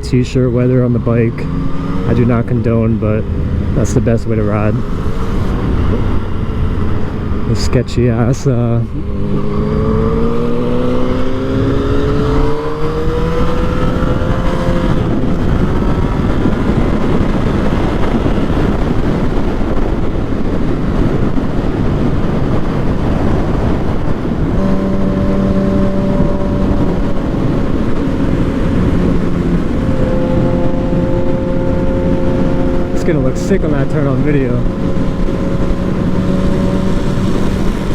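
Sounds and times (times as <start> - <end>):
heavy wind rush: 0.0 - 37.9
motorcycle engine accelerating: 0.0 - 37.9.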